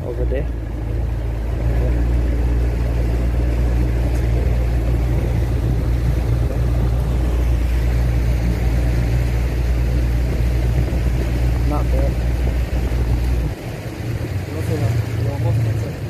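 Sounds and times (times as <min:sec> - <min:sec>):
motorboat engine humming: 0:00.0 - 0:16.0
rush of boat ride: 0:00.0 - 0:16.0.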